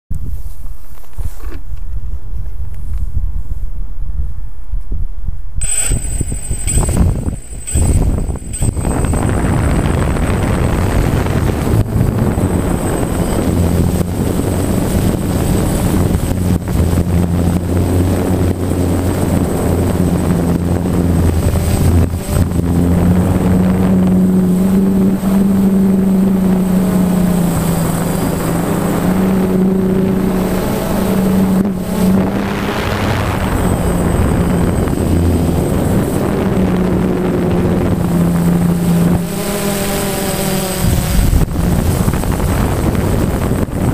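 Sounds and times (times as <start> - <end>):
steady high whine: 0.1 - 43.9
drone propellers buzzing: 5.5 - 43.9.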